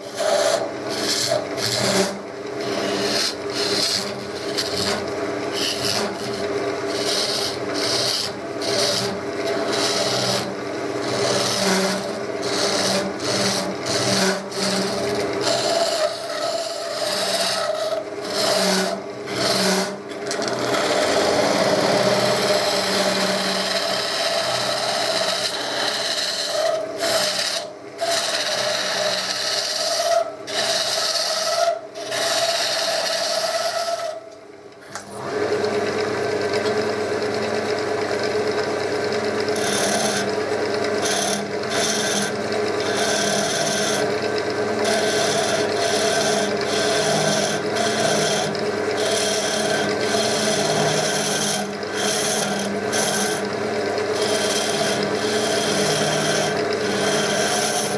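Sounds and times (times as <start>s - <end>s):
lathe hum: 0.0s - 34.2s, 34.8s - 57.9s
tool rasping on spinning wood: 0.0s - 34.2s, 39.1s - 57.9s.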